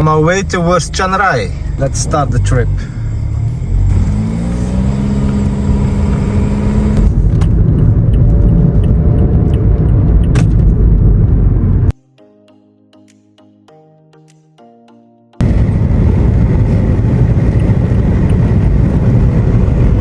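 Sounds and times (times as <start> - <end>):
vehicle engine accelerating: 0.0 - 11.9, 15.4 - 20.0.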